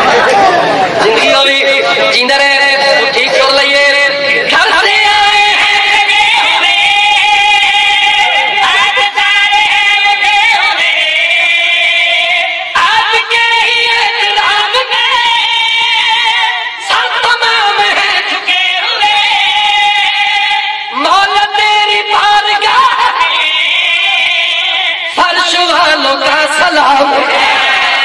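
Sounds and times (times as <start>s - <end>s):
person singing devotional song: 1.0s - 28.0s.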